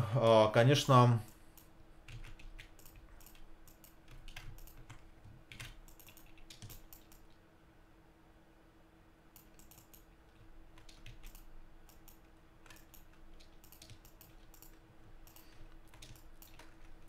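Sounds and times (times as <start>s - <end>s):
low steady hum: 0.0s - 17.0s
computer keyboard and mouse clicking: 1.2s - 7.4s, 9.4s - 17.0s.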